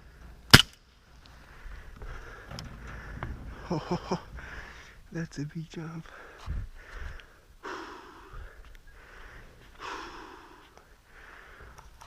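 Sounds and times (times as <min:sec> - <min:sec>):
person breathing heavily: 0:01.3 - 0:05.1, 0:06.0 - 0:12.0.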